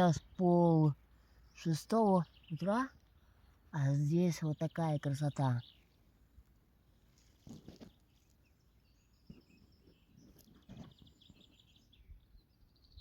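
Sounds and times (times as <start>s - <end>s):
distant songbird trills: 0.0s - 13.0s.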